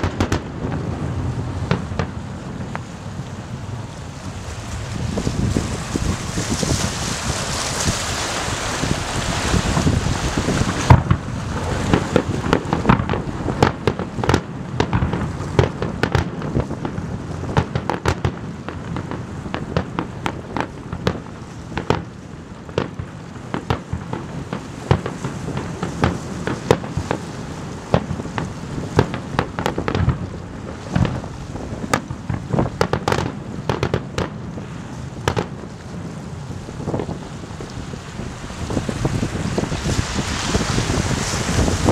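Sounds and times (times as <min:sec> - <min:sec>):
fireworks bursting with sharp bangs: 0:00.0 - 0:41.9.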